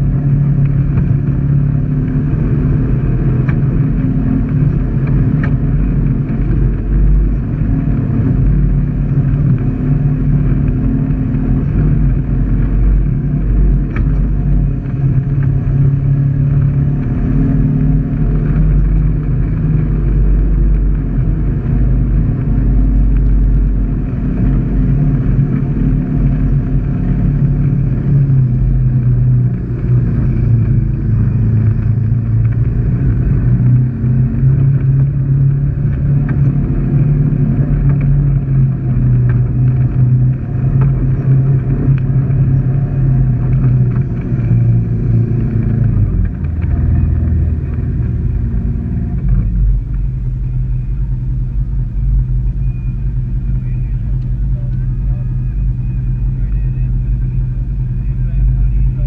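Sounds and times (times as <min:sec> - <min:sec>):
utv engine running steadily: 0:00.0 - 0:59.0.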